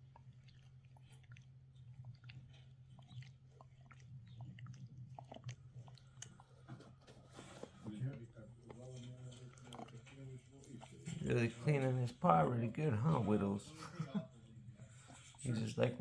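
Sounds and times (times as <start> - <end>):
dog gnawing on a bone: 0.0 - 16.0.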